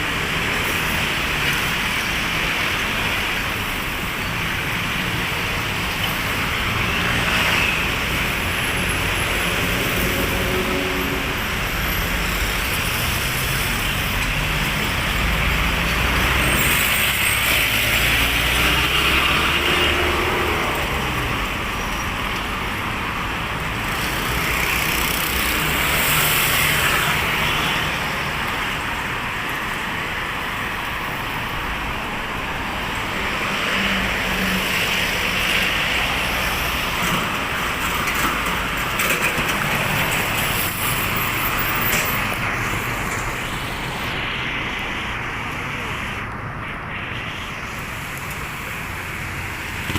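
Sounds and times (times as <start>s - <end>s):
passing cars: 0.0s - 49.9s.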